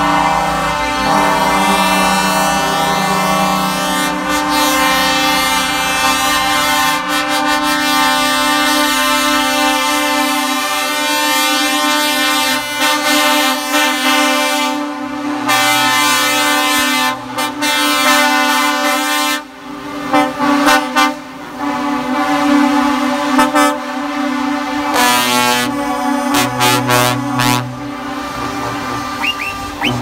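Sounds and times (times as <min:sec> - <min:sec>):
truck air horn blasts: 0:00.0 - 0:30.0.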